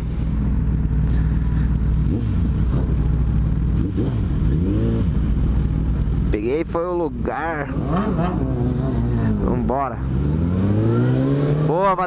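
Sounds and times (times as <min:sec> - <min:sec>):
motorcycle engine running: 0:00.0 - 0:12.0
traffic: 0:00.0 - 0:12.0.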